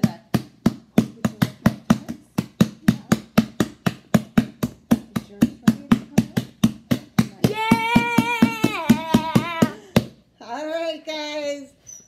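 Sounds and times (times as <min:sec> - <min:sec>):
hands slapping foam slime: 0:00.0 - 0:10.2.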